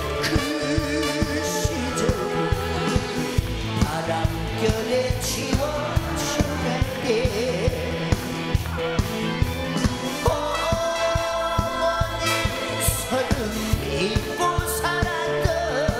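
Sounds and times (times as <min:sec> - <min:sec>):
man singing with vibrato: 0:00.0 - 0:08.2, 0:10.2 - 0:15.9
drum beat: 0:00.0 - 0:15.9
electric guitar: 0:00.0 - 0:15.9.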